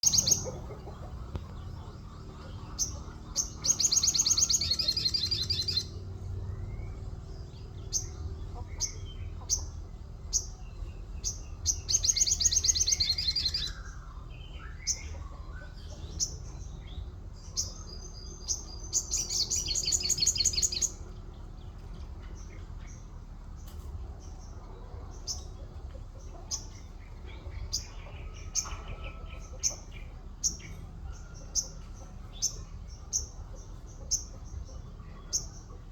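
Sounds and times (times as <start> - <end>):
songbird chirps and trills: 0.0 - 35.9.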